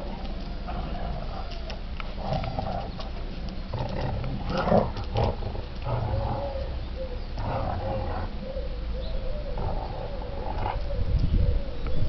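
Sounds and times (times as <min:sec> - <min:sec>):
dogs grunting and growling: 0:00.0 - 0:11.0.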